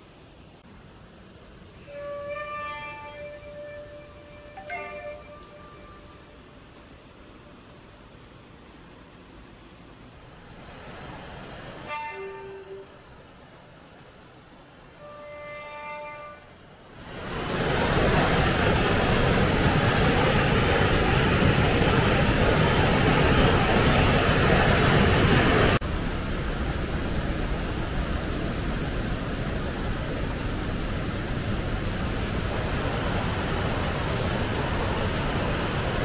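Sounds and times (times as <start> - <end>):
waterfall and stream rushing: 0.0 - 36.0.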